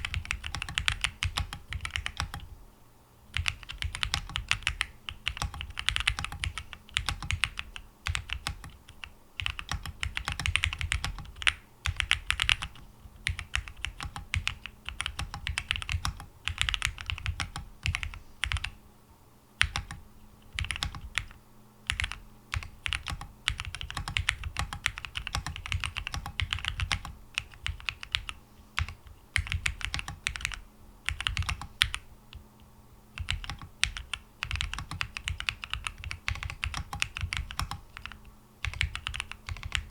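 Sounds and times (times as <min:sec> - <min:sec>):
mechanical keyboard typing: 0:00.0 - 0:02.5, 0:03.3 - 0:18.8, 0:19.6 - 0:32.4, 0:33.2 - 0:39.9.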